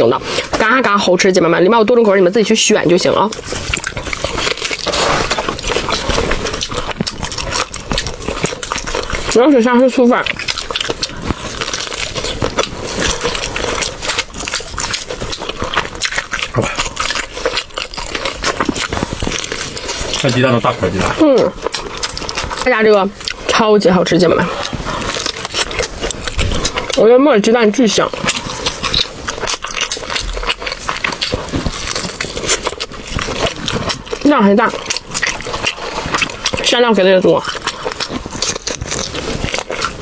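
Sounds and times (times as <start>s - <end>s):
chewing and mouth smacking: 0.0s - 40.0s.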